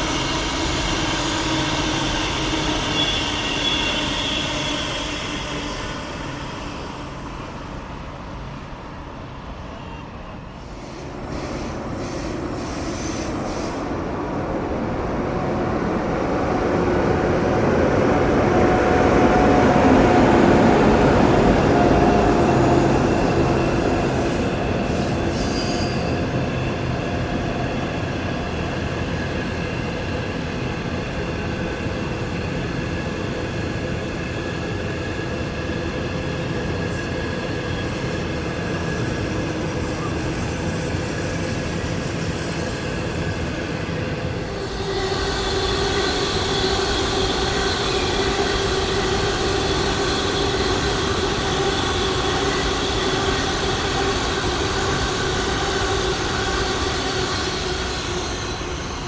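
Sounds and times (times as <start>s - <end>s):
high train whine: 0.0s - 59.0s
train wheels rumbling on rails: 0.0s - 59.0s.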